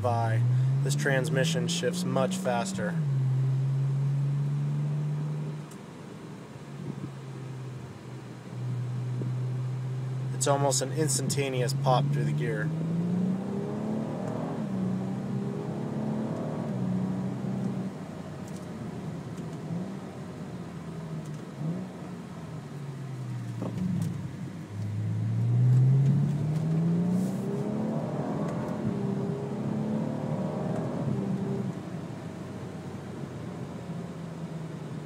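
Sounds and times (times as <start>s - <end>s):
car engine accelerating: 0.0s - 6.0s, 6.6s - 35.0s.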